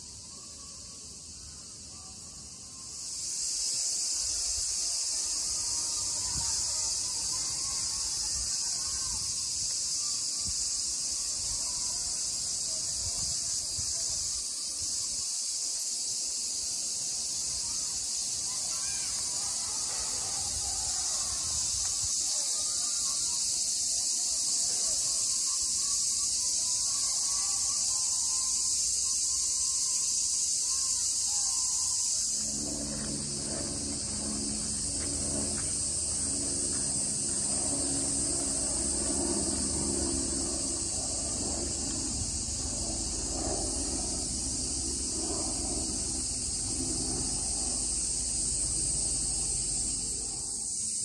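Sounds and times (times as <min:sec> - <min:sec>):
cicadas singing: 0:00.0 - 0:51.0.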